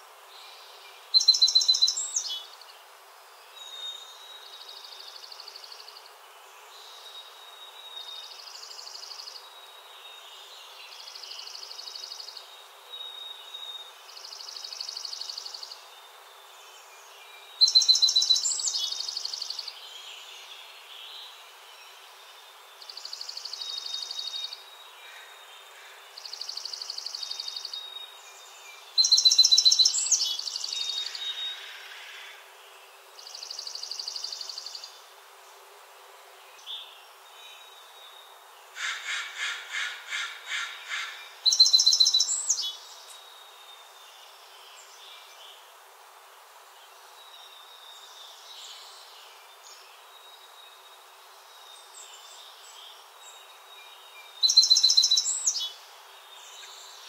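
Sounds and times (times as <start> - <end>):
faint steady hiss: 0.0 - 57.0
songbird singing high phrases: 0.4 - 2.8, 6.8 - 25.0, 26.2 - 35.1, 36.6 - 45.6, 46.7 - 57.0.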